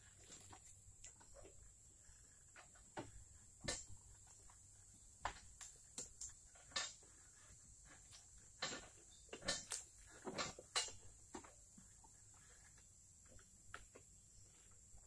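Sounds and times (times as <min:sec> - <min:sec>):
faint knocks and clatters: 0:00.0 - 0:15.0.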